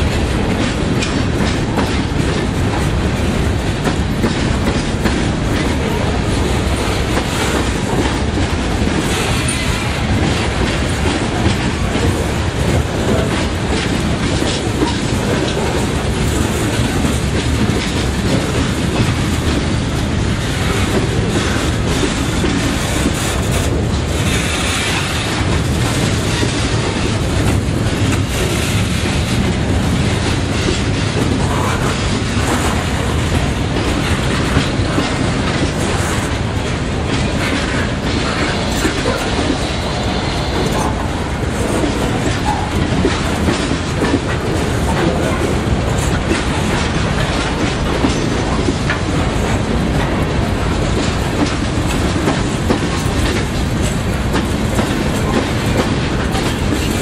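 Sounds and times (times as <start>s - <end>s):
train wheels clacking on rails: 0.0s - 57.0s.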